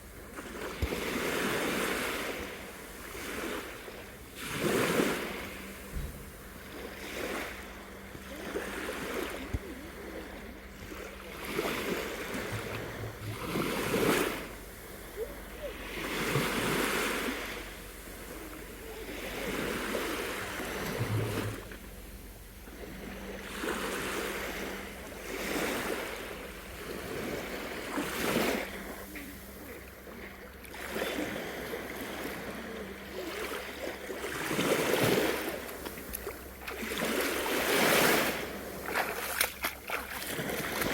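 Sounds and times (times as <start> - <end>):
small sea waves washing in: 0.0 - 40.9.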